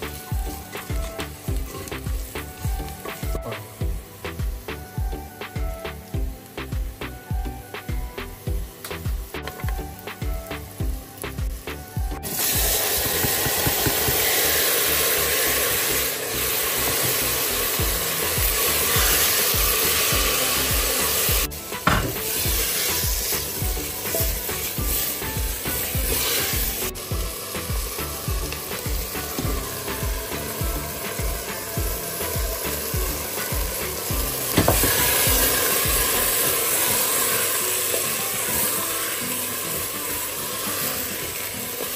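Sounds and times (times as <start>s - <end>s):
background music with beat: 0.0s - 41.9s
vegetables sizzling in oil: 0.0s - 41.9s.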